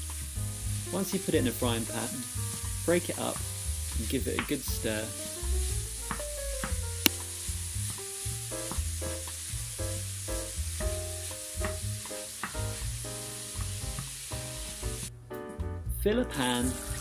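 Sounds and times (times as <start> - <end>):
meat sizzling in a frying pan: 0.0 - 15.1, 16.4 - 17.0.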